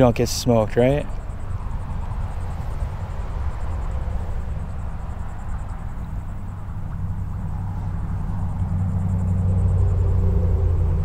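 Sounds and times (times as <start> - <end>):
faint insect buzz: 0.0 - 11.0
wind buffeting microphone: 0.0 - 11.0.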